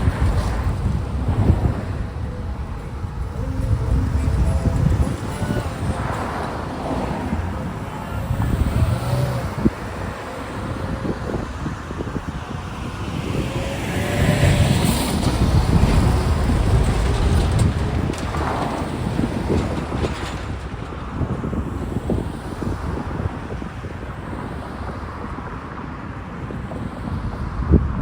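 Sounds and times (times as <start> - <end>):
cars driving past: 0.0 - 27.3.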